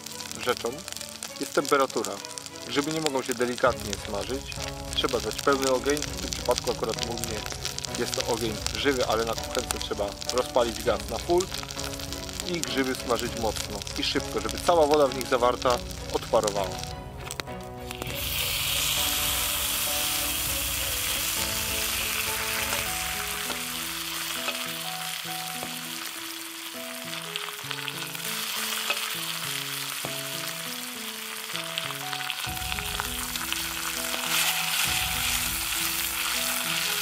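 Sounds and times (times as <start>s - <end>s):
mushrooms sizzling in a frying pan: 0.0s - 37.0s.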